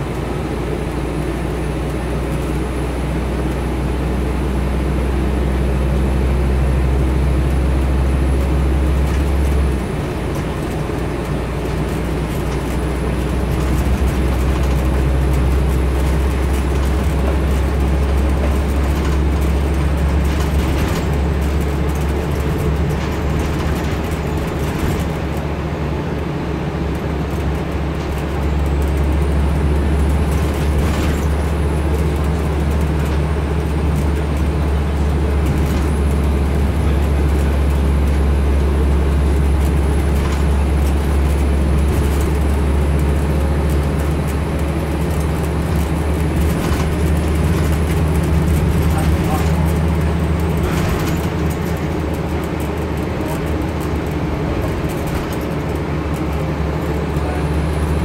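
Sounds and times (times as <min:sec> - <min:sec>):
bus engine and road noise drone: 0:00.0 - 0:58.0.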